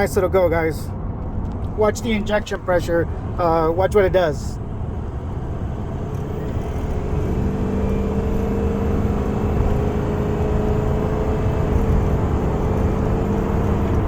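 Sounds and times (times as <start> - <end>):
diesel engine accelerating: 0.0 - 14.0.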